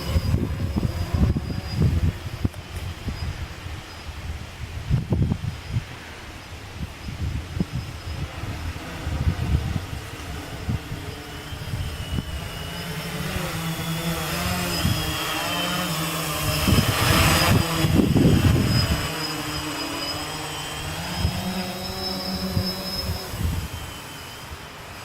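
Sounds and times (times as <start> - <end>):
quadcopter propellers whirring: 0.0 - 25.0
wind rumbling on microphone: 0.0 - 25.0.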